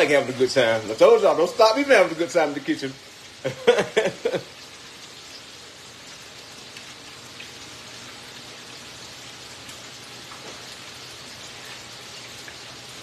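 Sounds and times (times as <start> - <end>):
oil sizzling in deep fryer: 0.0 - 13.0.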